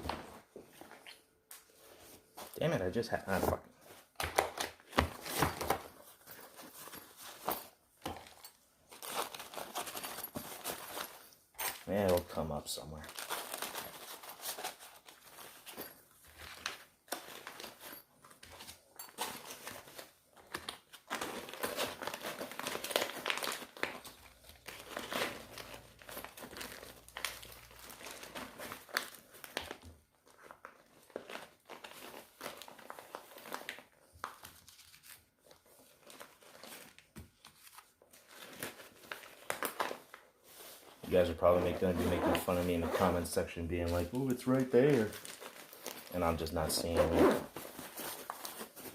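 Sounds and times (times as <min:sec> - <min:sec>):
gear rustling and crinkling: 0:00.0 - 0:48.9.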